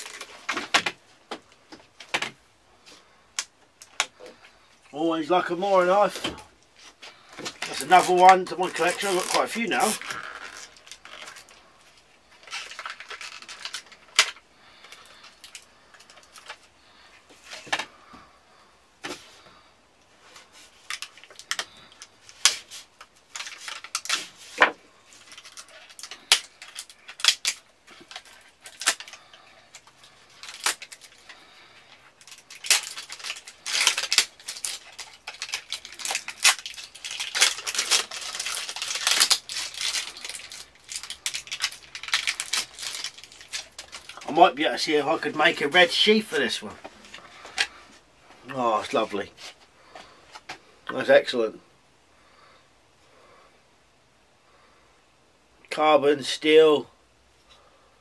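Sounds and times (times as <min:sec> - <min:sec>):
plastic crinkling and rustling: 0:00.0 - 0:51.4.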